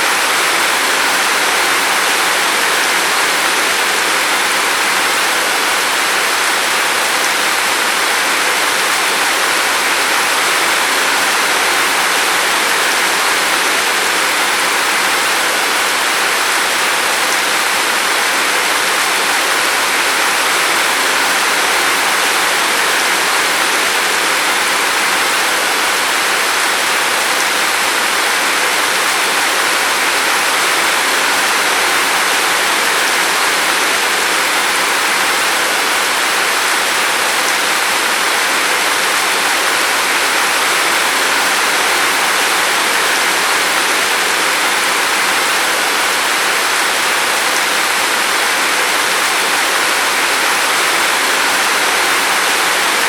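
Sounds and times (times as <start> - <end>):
heavy rain hissing: 0.0 - 53.0.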